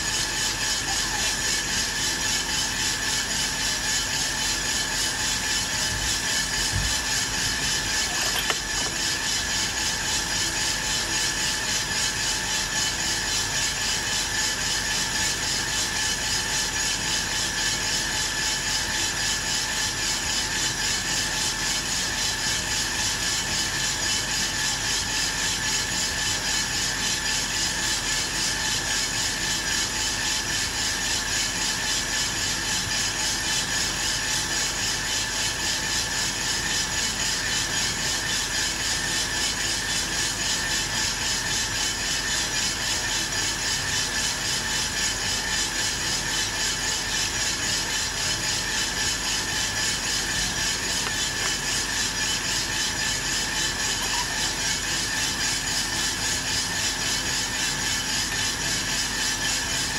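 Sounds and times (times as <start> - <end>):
coffee roaster whirring: 0.0 - 59.9.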